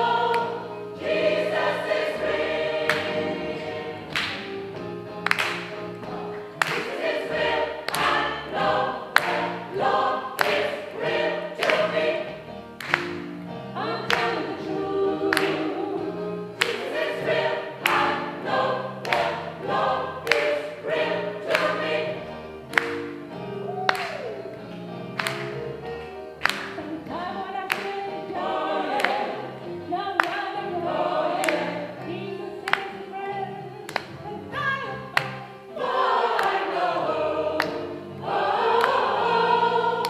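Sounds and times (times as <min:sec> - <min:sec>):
gospel choir singing: 0:00.0 - 0:40.0.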